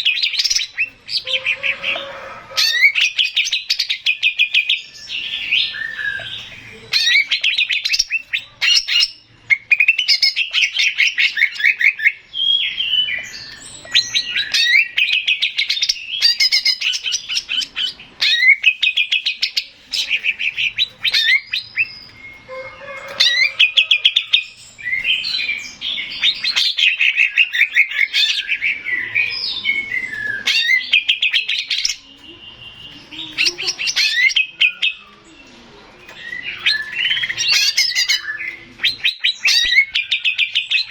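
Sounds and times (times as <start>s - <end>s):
bird singing rattling trills: 0.0s - 40.9s.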